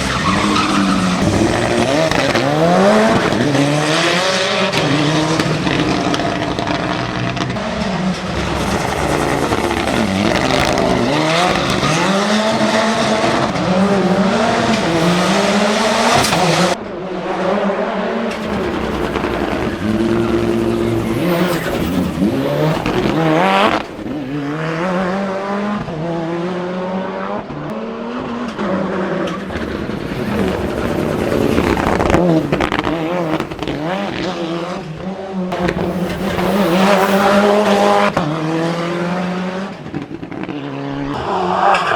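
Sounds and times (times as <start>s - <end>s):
car engine revving through gears: 0.0s - 41.9s.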